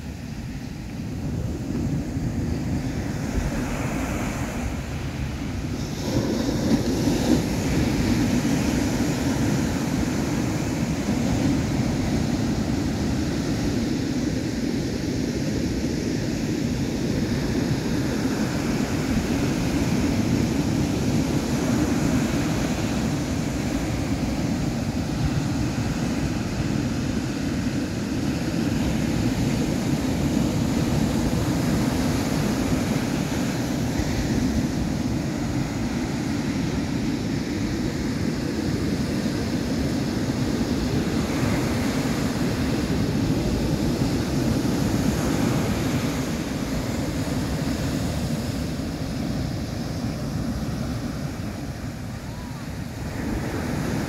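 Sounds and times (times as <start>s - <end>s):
ocean surf breaking: 0.0s - 54.0s
wind buffeting the microphone: 0.0s - 54.0s.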